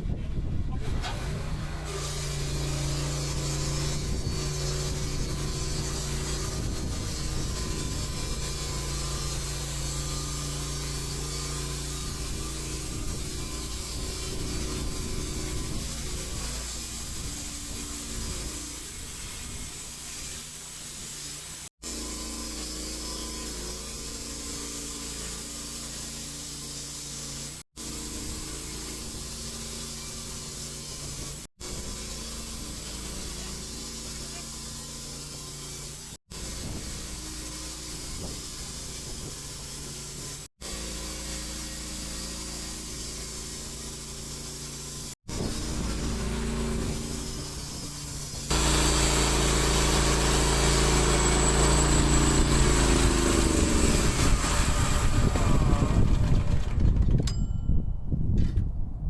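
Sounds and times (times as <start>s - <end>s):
sawmill engine running: 0.0s - 57.4s
saw blade cutting log: 0.7s - 56.8s.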